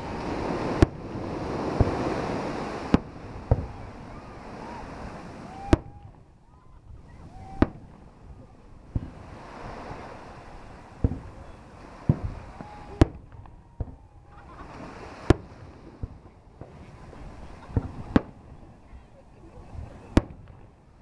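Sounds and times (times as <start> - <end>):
fireworks bangs: 0.0 - 6.3, 6.9 - 18.7, 19.7 - 20.7
steady wash of noise: 0.0 - 21.0.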